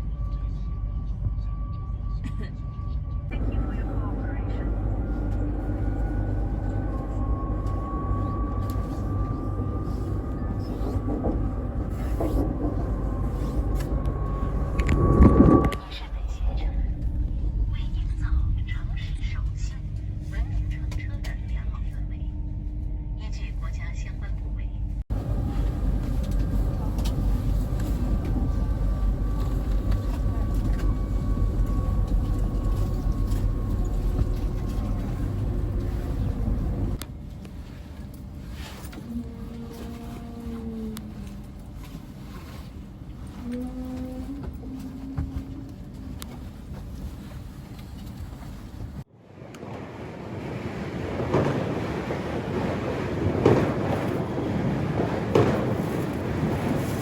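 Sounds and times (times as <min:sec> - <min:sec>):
vehicle rumble: 0:00.0 - 0:49.1.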